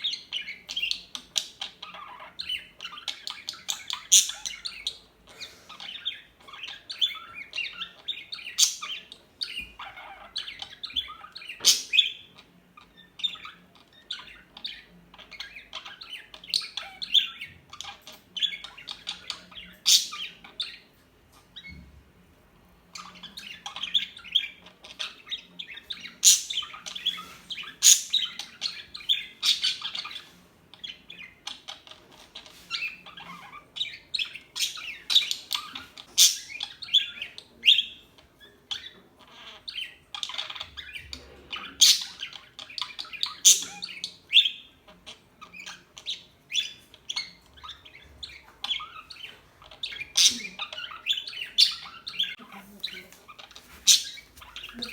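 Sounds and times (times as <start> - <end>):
budgerigars chirping: 0.0 - 21.9, 22.8 - 54.9.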